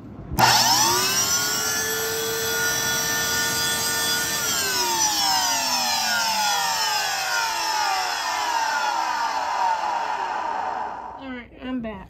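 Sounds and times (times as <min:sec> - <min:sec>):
vacuum cleaner motor whining: 0:00.4 - 0:11.1.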